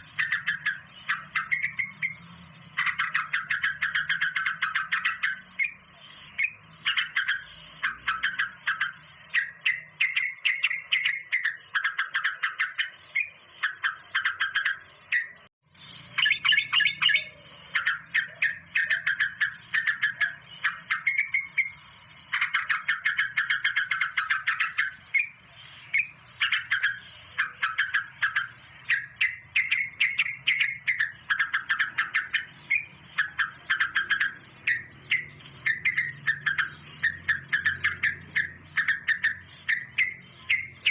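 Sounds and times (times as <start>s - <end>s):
birds chirping rapidly: 0.0s - 40.9s.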